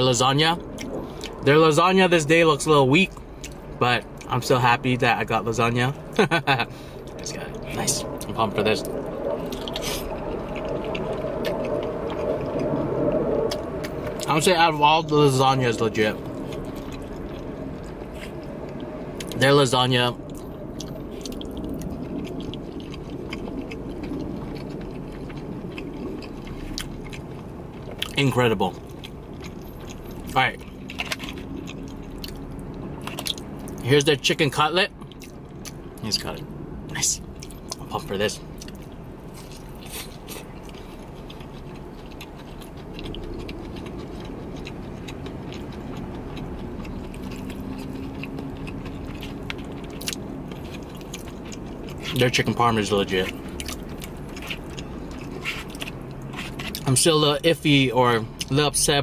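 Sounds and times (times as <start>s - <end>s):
low steady hum: 0.0s - 59.0s
soft wet chewing: 0.7s - 1.5s, 3.0s - 4.6s, 6.1s - 14.5s, 15.5s - 33.9s, 35.0s - 57.0s.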